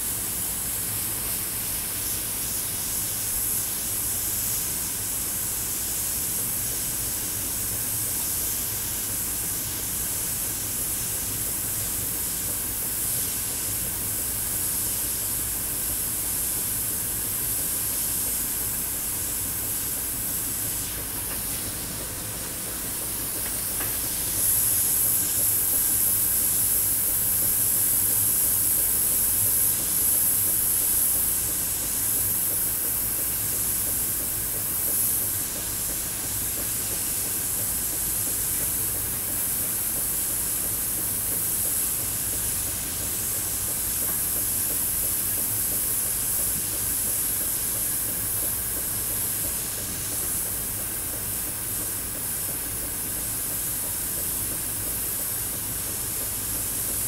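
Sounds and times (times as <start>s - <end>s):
airbrush spraying with air hiss: 0.0s - 57.0s.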